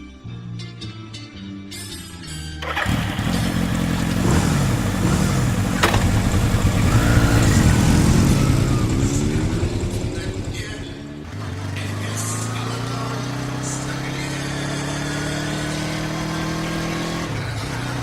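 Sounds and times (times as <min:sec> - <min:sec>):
guitar music: 0:00.0 - 0:18.0
motorcycle engines revving: 0:02.6 - 0:18.0.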